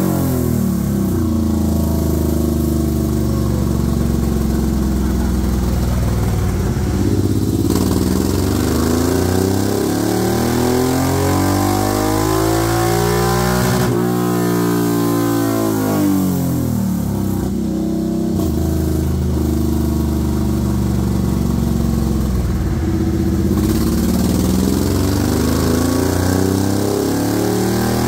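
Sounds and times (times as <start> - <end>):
motorcycle engine revving on dyno: 0.0 - 28.0.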